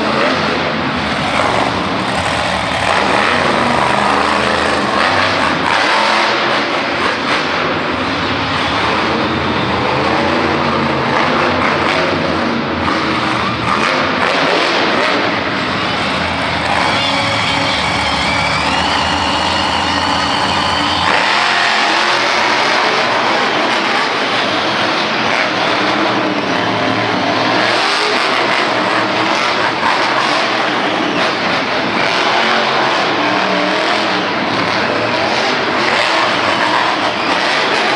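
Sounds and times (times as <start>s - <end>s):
truck engine revving loudly: 0.0s - 37.9s.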